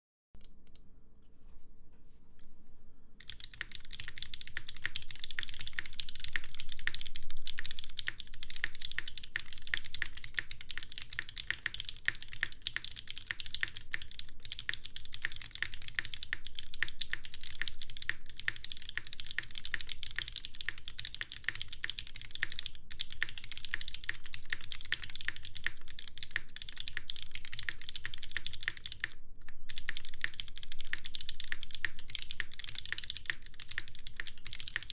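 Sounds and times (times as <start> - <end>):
mechanical keyboard typing: 0.4 - 0.8, 3.2 - 34.9.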